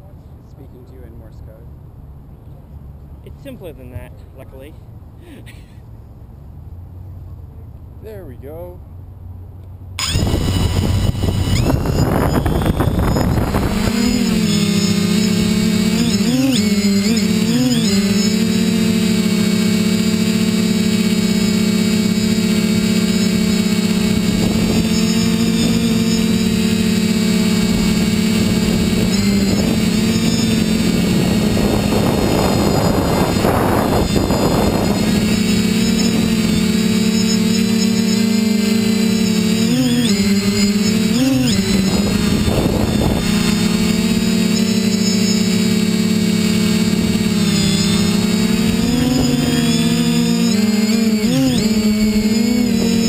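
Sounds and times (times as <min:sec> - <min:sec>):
steady low hum: 0:00.0 - 0:53.0
drone propellers whining: 0:09.9 - 0:53.0
quadcopter motors whirring: 0:10.0 - 0:53.0.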